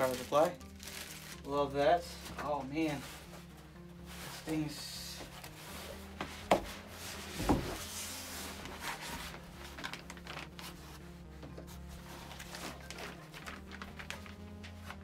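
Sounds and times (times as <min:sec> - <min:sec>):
plastic bag and cardboard rustling: 0:00.0 - 0:15.0.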